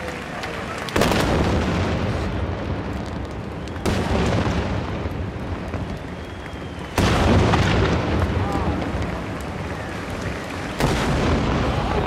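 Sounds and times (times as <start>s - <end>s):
rolling echo: 0.0s - 12.0s
firework booms: 0.8s - 12.0s.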